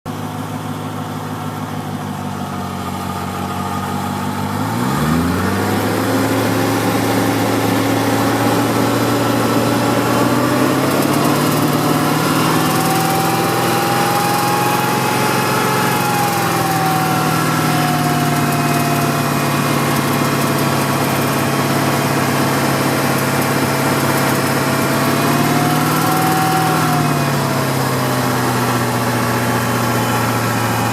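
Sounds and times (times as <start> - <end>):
car engine idling: 0.1 - 30.9
sharp ticking under engine: 0.1 - 30.9
low rising tone: 2.6 - 30.9.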